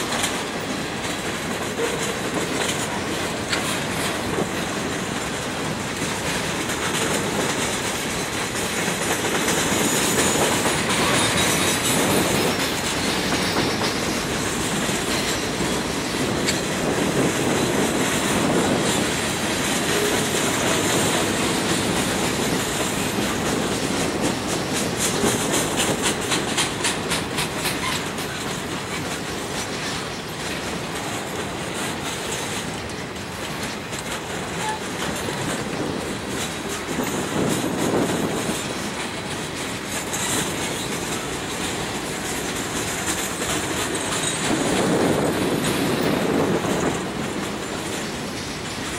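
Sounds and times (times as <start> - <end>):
freight train wheels rumbling: 0.0 - 48.9
wheels clacking over rail joints: 0.0 - 48.9.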